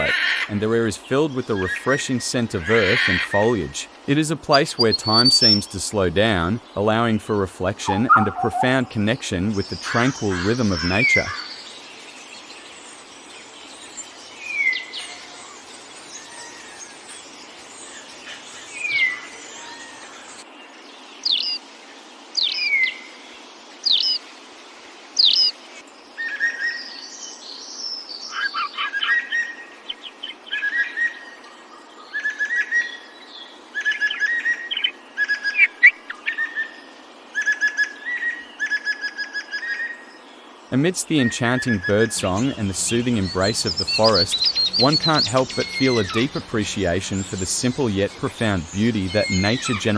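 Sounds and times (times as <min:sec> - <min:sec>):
songbirds calling: 0:00.0 - 0:49.9.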